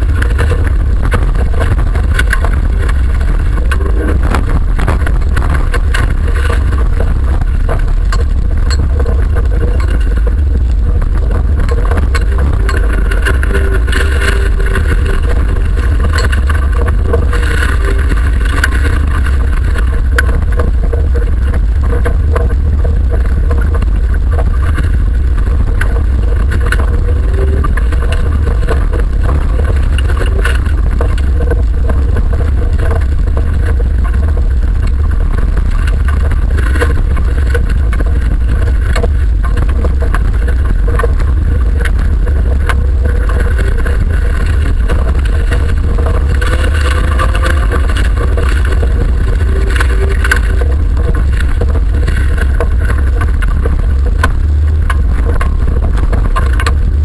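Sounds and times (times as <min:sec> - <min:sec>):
bodywork knocks and rattles: 0:00.0 - 0:57.0
car engine rumble: 0:00.0 - 0:57.0.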